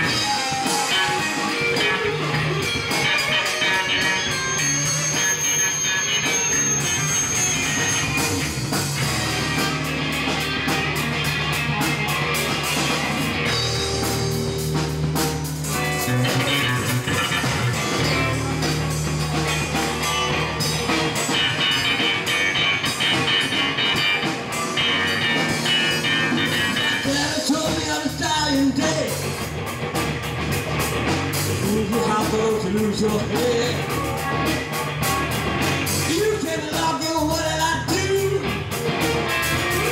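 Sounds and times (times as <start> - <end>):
bass line: 0.0 - 39.9
drums: 0.0 - 39.9
electric guitars: 0.0 - 39.9.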